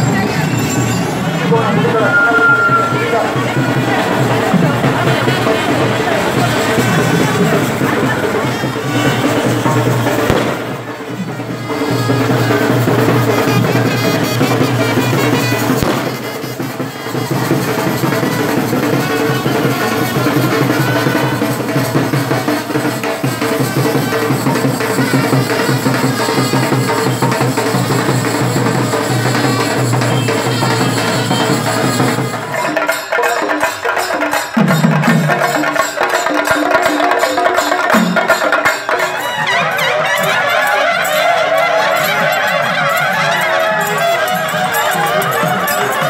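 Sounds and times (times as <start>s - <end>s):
procession drumming with held notes: 0.1s - 46.0s.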